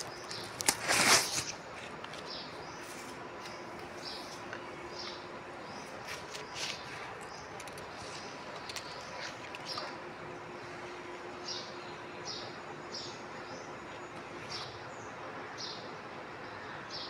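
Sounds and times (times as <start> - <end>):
small birds chirping faintly: 0.0 - 17.0
steady background hiss: 0.0 - 17.0.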